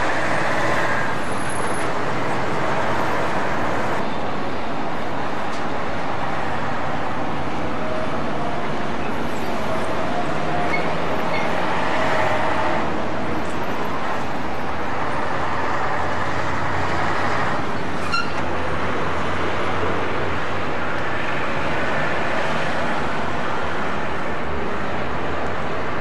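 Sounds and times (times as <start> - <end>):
lorry diesel engine rumbling: 0.0 - 22.0
road traffic: 0.0 - 26.0.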